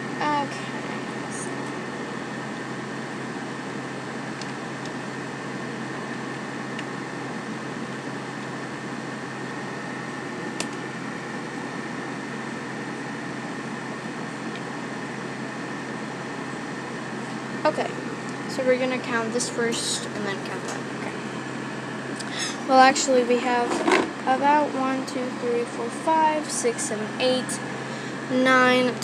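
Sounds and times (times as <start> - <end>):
background hum and hiss: 0.0 - 29.0
faint high whine: 0.0 - 29.0.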